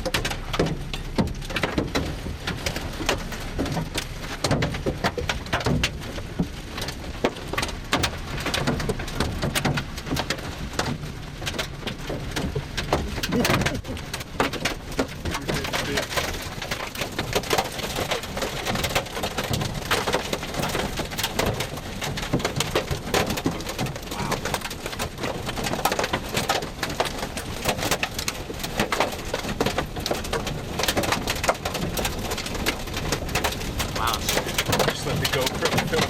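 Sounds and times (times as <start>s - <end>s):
low rumble of wind: 0.0s - 36.0s
rain and hail on vehicle: 0.0s - 36.0s.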